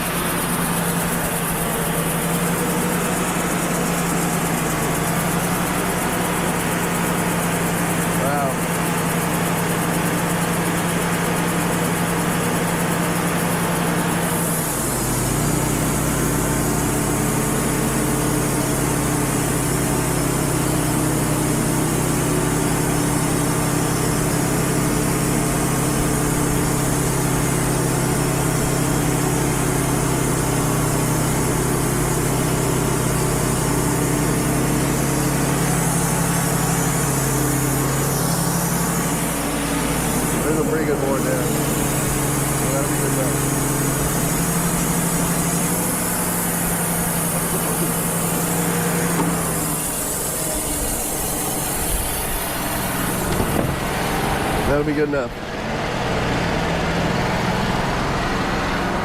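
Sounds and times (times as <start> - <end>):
band sawmill sawing log: 0.0 - 59.0.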